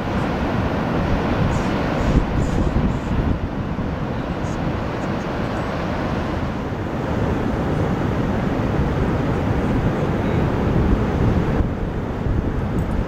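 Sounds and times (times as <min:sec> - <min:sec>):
ocean surf breaking: 0:00.0 - 0:13.0
wind buffeting microphone: 0:00.0 - 0:13.0.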